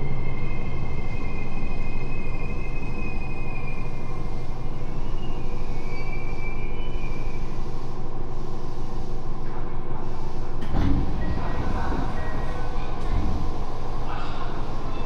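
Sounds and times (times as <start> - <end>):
train rumble with high whine: 0.0 - 15.0.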